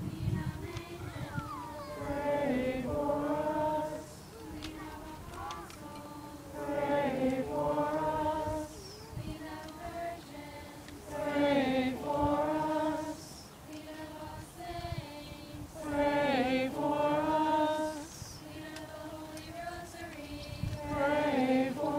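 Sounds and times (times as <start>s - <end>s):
group singing a slow hymn: 0.0s - 21.9s.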